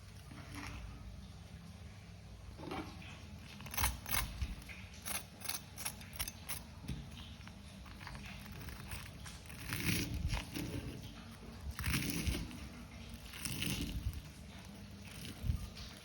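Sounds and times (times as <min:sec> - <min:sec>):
low steady hum: 0:00.0 - 0:16.0
kitchen utensils clicking and knocking: 0:02.6 - 0:16.0.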